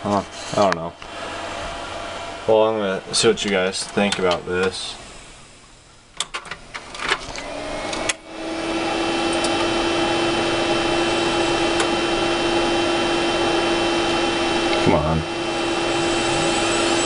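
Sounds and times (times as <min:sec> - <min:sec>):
computer fans and hard drive whirring: 0:00.0 - 0:05.1, 0:06.0 - 0:17.0.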